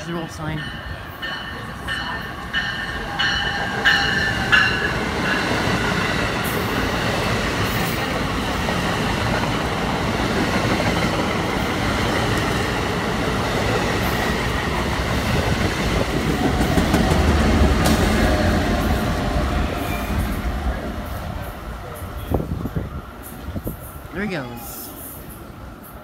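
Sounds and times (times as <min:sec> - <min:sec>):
deep locomotive rumble: 0:00.0 - 0:24.1
train wheels on rails: 0:00.0 - 0:26.0.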